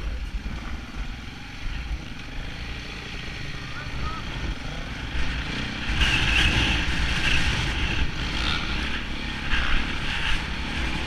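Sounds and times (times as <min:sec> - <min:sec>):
motorcycle engine under throttle: 0:00.0 - 0:11.0.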